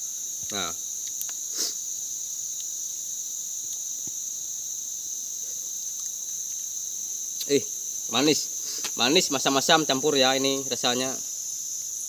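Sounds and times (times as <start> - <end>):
forest insects shrilling: 0.0 - 12.0.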